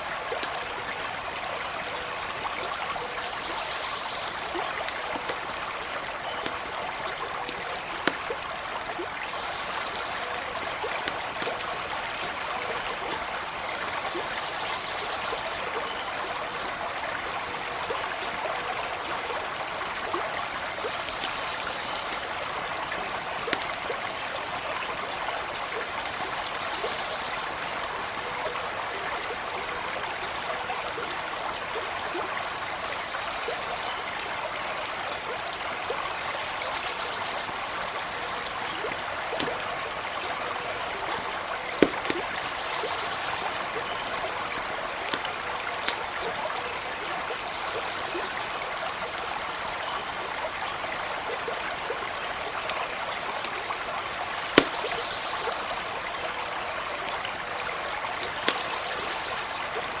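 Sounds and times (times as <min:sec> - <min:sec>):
brook trickling: 0:00.0 - 1:00.0
campfire popping and crackling: 0:00.0 - 1:00.0.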